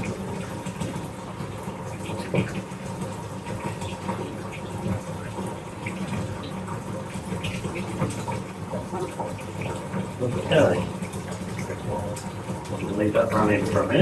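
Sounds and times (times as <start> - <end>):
tap water running into bathtub: 0.0 - 14.0.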